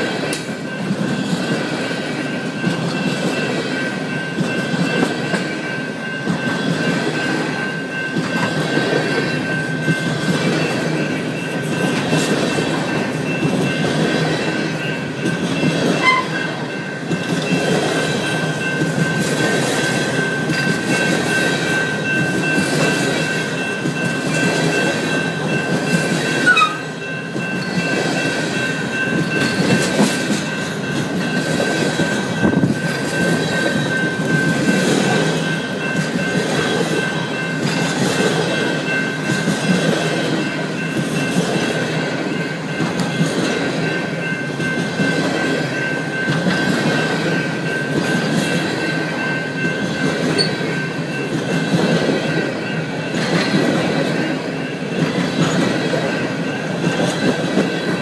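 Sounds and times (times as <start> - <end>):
clickety-clack over rail joints: 0.0 - 58.0
train wheels rumbling on rails: 0.0 - 58.0.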